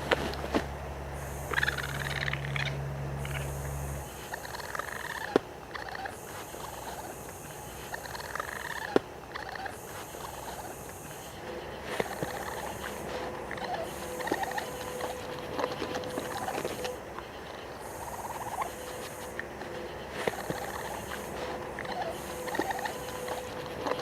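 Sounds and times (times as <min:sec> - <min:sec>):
low hum: 0:00.0 - 0:24.0
raccoon trilling calls: 0:00.0 - 0:24.0.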